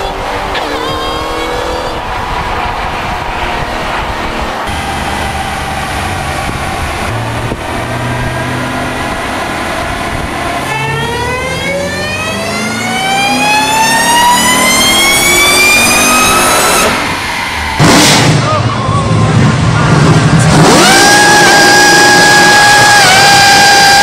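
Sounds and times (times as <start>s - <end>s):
car engine accelerating: 0.0s - 24.0s
supercharger whine: 0.0s - 24.0s.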